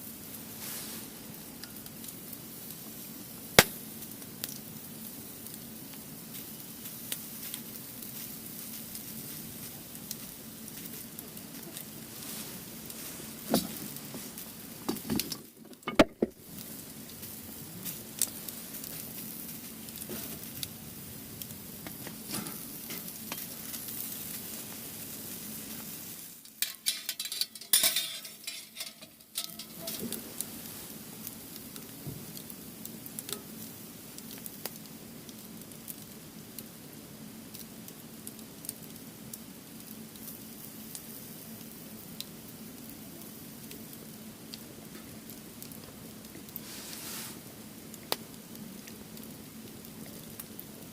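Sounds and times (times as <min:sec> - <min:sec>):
firewood crackling and popping: 0:00.0 - 0:50.9.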